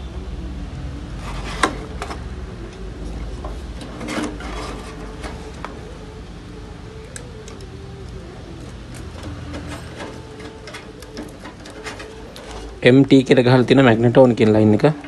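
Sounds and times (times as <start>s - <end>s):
steady low hum: 0.0s - 15.0s
wire connectors clicking and rubbing: 1.2s - 15.0s.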